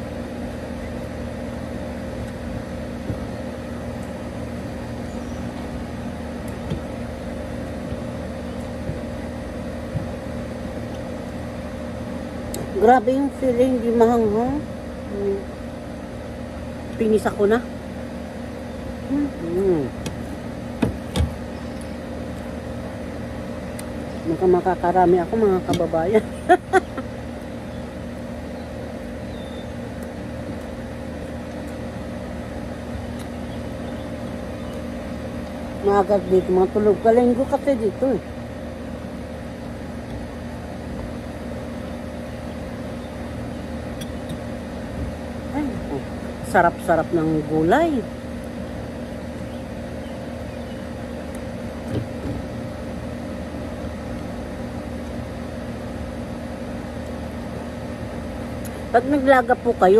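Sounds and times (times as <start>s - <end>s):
air conditioner unit humming: 0.0s - 59.9s.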